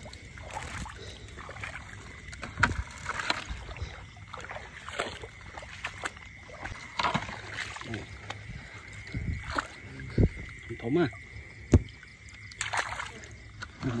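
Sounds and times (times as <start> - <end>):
shallow water sloshing and splashing: 0.0 - 14.0.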